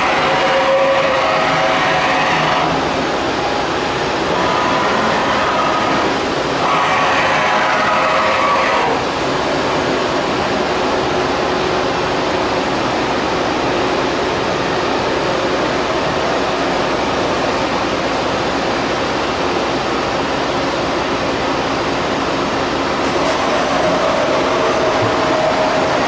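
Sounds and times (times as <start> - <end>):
machining center running: 0.0 - 26.0.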